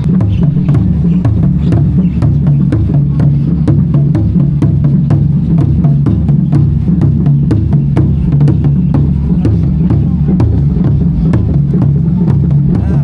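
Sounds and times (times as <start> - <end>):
loud music with fast drum beat: 0.0 - 13.0
low bass line: 0.0 - 13.0.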